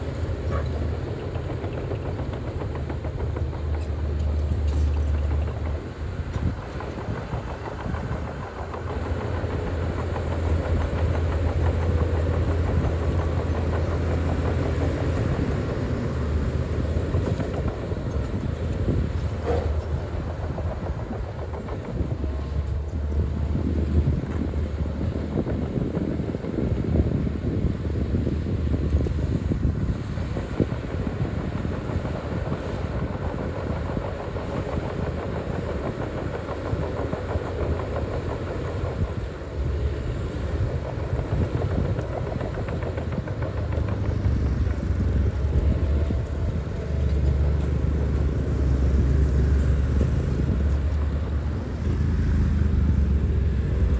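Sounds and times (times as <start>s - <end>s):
bulldozer diesel engine rumbling: 0.0s - 53.9s
steel tracks clattering: 0.0s - 53.9s.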